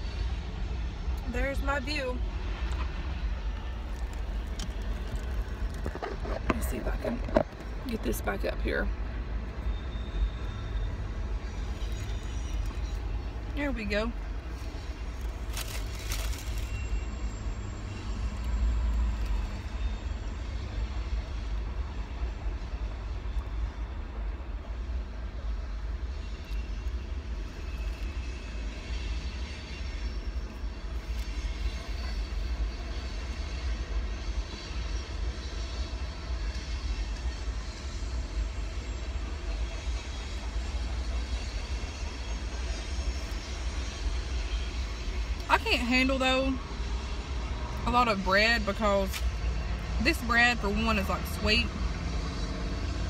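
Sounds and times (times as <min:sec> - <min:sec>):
train passing rumble: 0:00.0 - 0:53.0.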